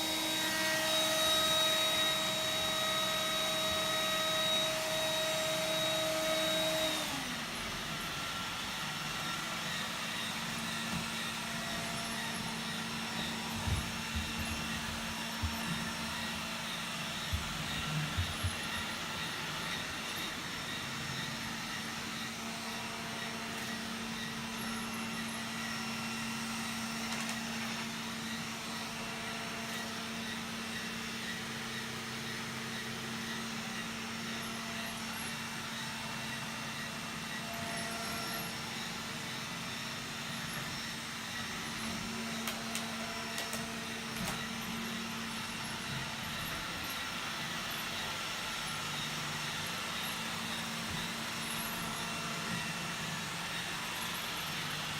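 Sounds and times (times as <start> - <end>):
robot vacuum whirring: 0.0 - 54.9.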